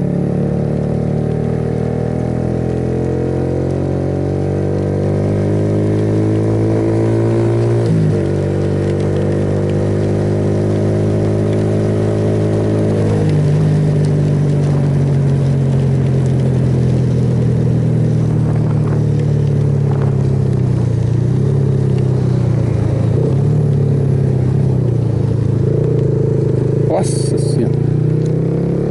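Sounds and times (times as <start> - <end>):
motorcycle engine running: 0.0 - 28.9
wind and road noise: 0.0 - 28.9.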